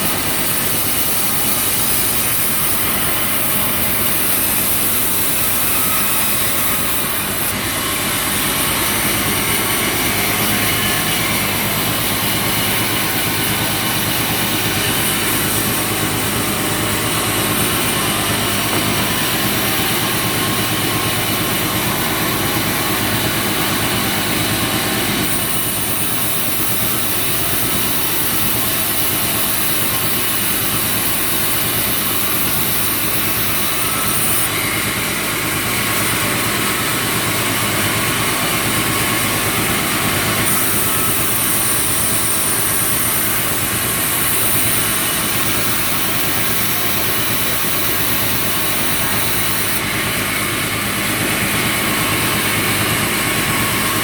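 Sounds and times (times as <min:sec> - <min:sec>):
sawmill machine running: 0:00.0 - 0:54.0.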